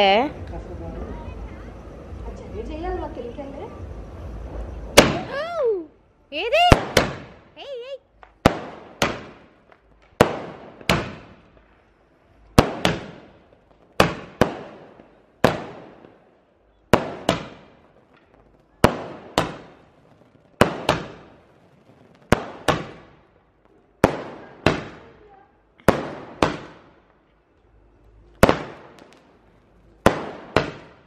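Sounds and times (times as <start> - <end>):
firework bangs echoing: 3.8 - 5.6, 6.4 - 31.0.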